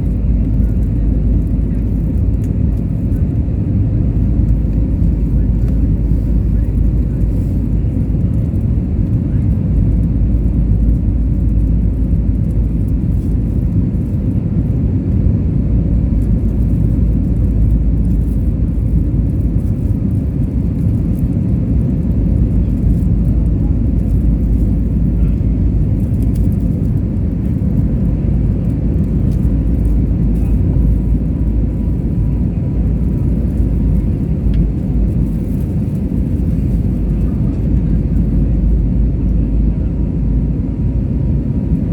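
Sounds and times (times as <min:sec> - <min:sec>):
jet engine rumble: 0:00.0 - 0:41.9.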